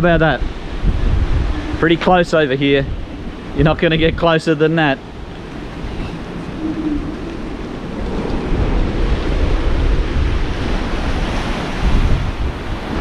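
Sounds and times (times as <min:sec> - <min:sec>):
choppy surging water: 0:00.0 - 0:13.0
wind buffeting microphone: 0:00.0 - 0:13.0.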